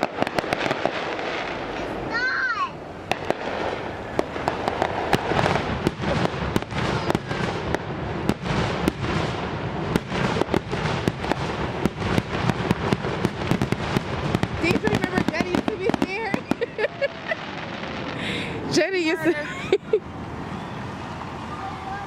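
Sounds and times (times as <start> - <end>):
fireworks popping and crackling: 0.0 - 2.2, 3.0 - 19.3
noisy rumble: 0.0 - 22.0.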